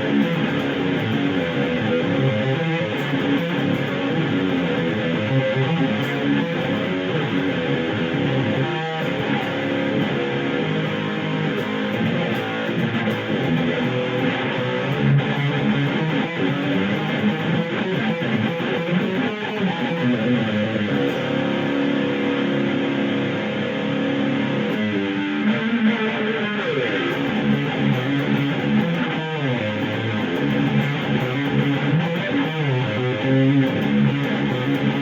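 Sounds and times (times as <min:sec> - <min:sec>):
distorted electric guitar playing: 0:00.0 - 0:35.0.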